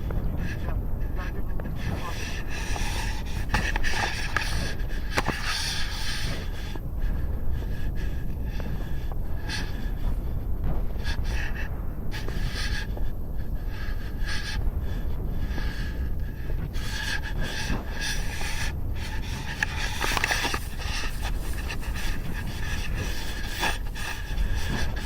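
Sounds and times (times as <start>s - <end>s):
low rumble of wind: 0.0s - 25.0s
person breathing hard: 0.0s - 25.0s.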